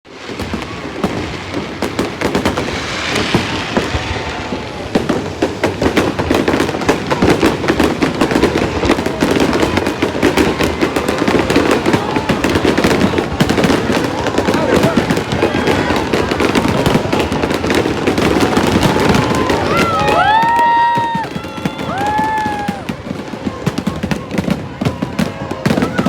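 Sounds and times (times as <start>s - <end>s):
crackling hiss: 0.1s - 23.2s
fireworks cracks and bangs: 0.1s - 26.0s.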